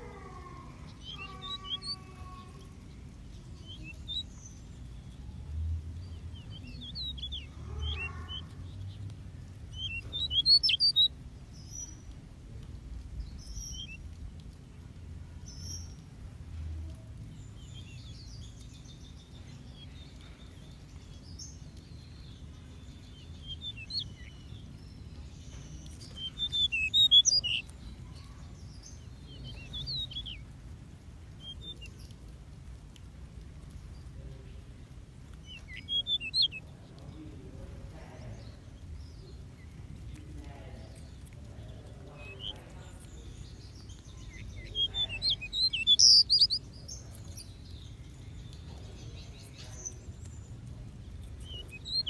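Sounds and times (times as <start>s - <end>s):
low steady rumble: 0.0s - 51.9s
small birds chirping: 0.0s - 52.0s.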